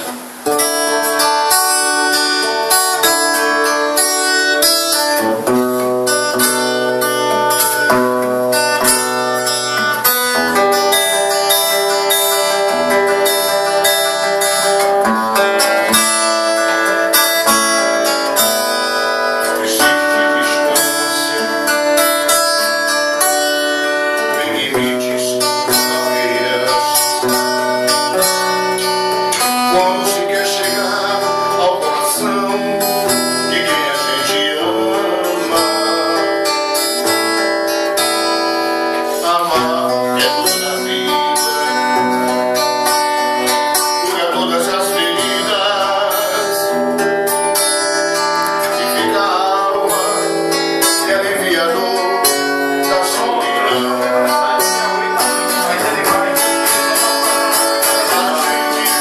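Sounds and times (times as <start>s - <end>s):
acoustic guitar: 0.0s - 59.0s
man singing: 0.0s - 59.0s.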